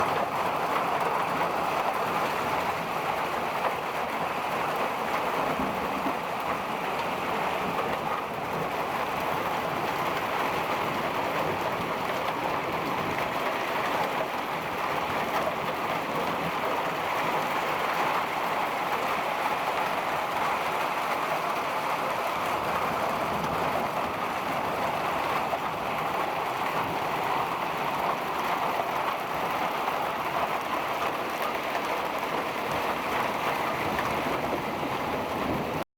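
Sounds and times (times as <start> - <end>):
hail and heavy rain: 0.0 - 35.8.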